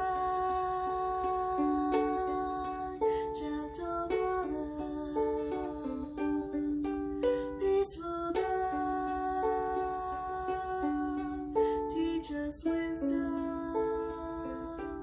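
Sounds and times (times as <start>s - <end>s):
ukulele playing: 0.0s - 15.0s.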